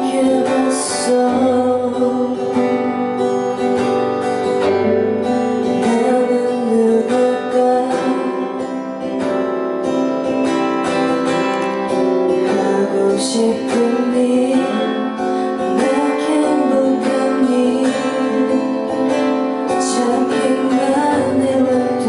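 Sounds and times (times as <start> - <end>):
woman singing: 0.0 - 9.5, 10.8 - 22.0
strummed acoustic guitar music: 0.0 - 22.0.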